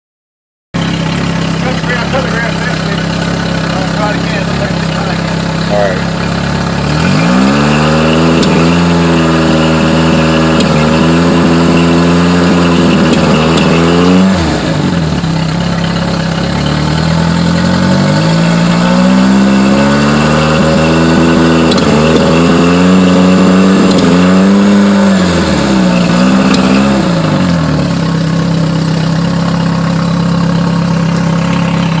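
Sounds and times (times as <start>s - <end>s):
engine idling and revving: 0.8s - 32.0s.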